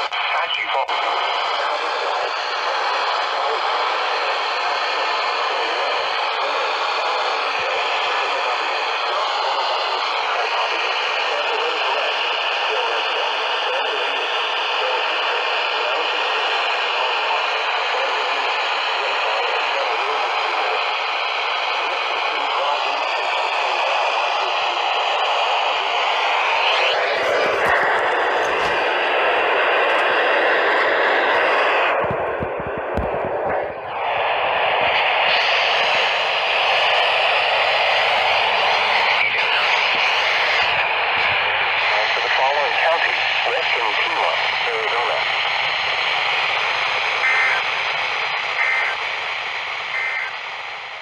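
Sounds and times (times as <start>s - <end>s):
radio static hiss: 0.0s - 51.0s.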